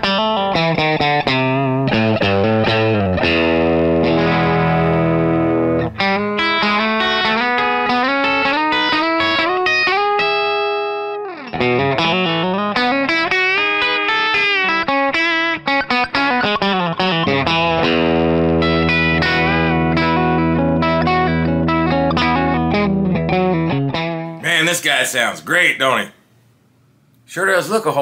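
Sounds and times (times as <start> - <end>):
electric guitar lead line: 0.0 - 24.8.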